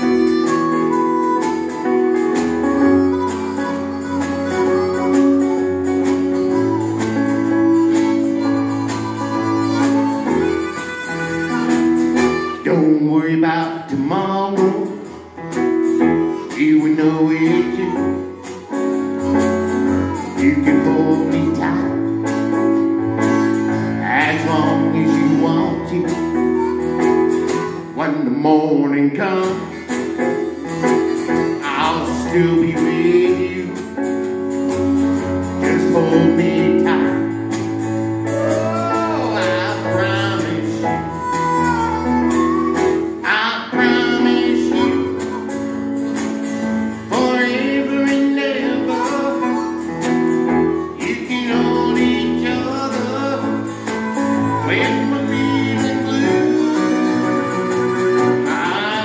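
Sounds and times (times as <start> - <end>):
harmonica solo with bending notes: 0.0 - 14.2, 14.8 - 28.2, 29.5 - 59.0
keyboard: 0.0 - 59.0
strummed acoustic guitar: 0.0 - 59.0.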